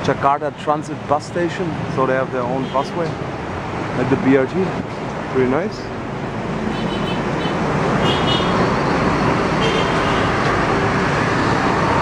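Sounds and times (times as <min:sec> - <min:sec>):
busy road traffic: 0:00.0 - 0:12.0.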